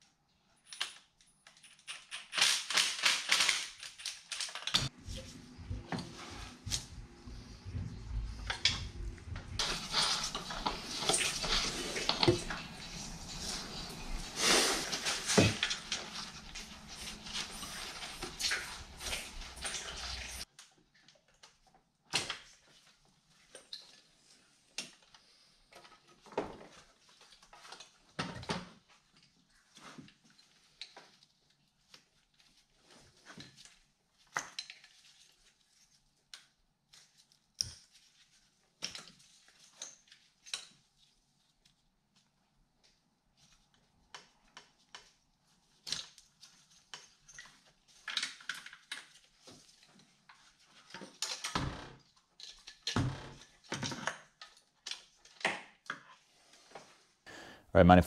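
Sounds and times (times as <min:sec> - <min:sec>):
background noise: 0:00.0 - 0:58.0.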